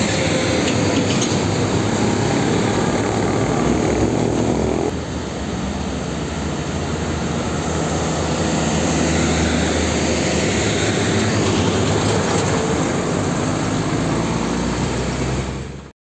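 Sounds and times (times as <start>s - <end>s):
road noise: 0.0s - 15.9s.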